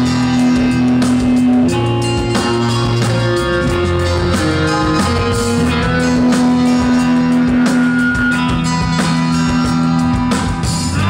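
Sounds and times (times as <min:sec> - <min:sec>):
drum kit steady beat: 0:00.0 - 0:11.0
electric guitar: 0:00.0 - 0:11.0.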